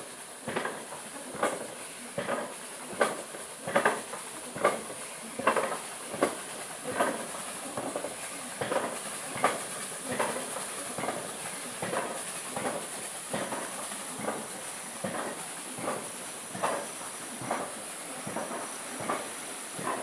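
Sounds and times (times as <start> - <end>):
rhythmic clacking knocks: 0.4 - 20.0.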